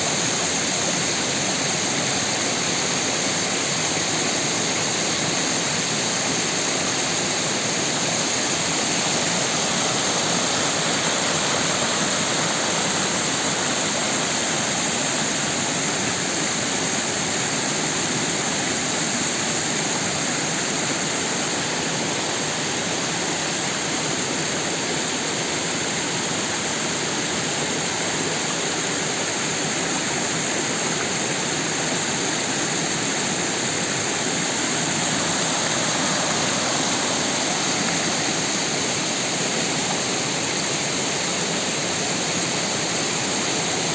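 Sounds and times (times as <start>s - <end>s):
creek water rushing over rocks: 0.0s - 43.9s.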